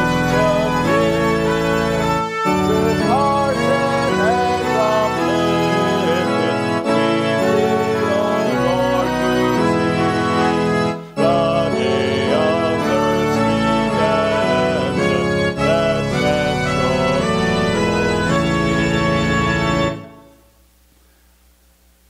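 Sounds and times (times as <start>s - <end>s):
organ playing a hymn: 0.0s - 20.5s.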